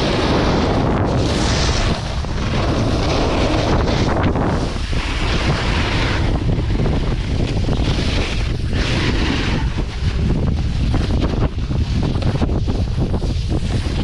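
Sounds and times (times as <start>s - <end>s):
deep rumble: 0.0s - 14.0s
snowboard hissing on snow: 0.0s - 14.0s
wind buffeting microphone: 0.0s - 14.0s.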